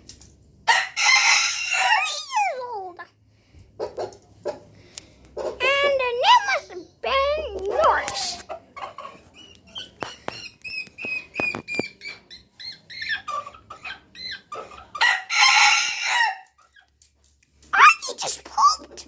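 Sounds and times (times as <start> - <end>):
chickens clucking and squawking: 0.7 - 3.0, 3.6 - 17.0.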